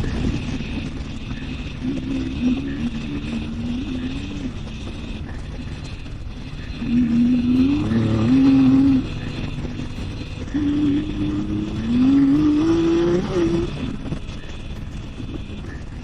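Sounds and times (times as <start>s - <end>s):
motorcycle engine accelerating: 0.0s - 16.0s
road and wind rumble: 0.0s - 16.0s.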